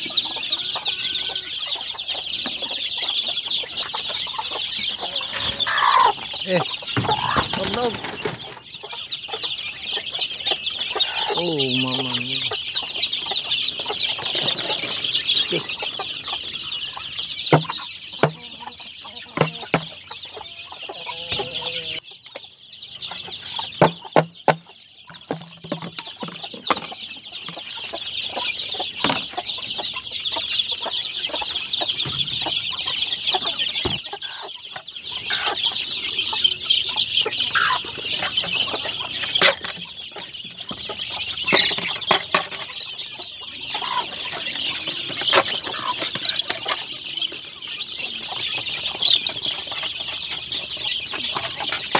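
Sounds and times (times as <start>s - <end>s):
chicken clucking: 0.0s - 51.9s
chicks cheeping: 0.0s - 51.9s.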